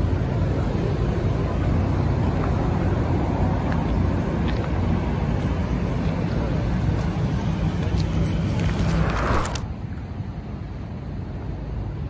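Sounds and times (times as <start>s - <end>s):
low rumbling noise: 0.0s - 11.7s.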